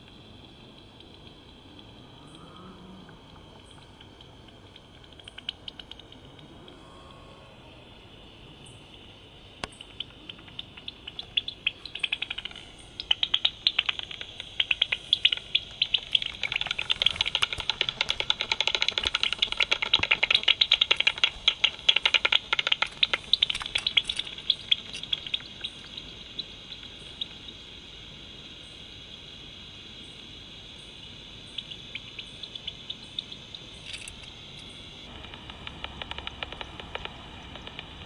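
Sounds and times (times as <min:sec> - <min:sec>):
bat detector hiss and clicks: 0:00.0 - 0:38.0.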